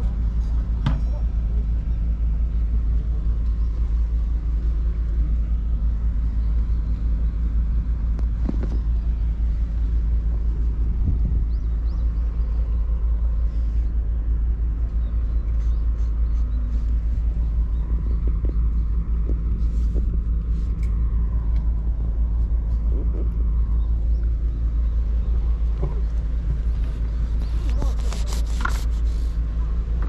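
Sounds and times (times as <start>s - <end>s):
wind buffeting microphone: 1.4s - 30.0s.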